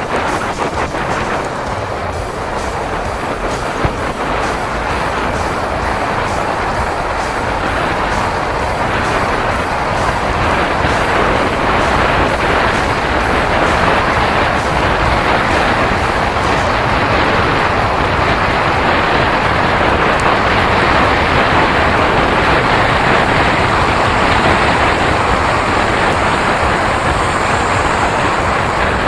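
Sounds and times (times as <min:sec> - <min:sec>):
wind and road noise: 0:00.0 - 0:29.0
wind buffeting microphone: 0:00.0 - 0:29.0.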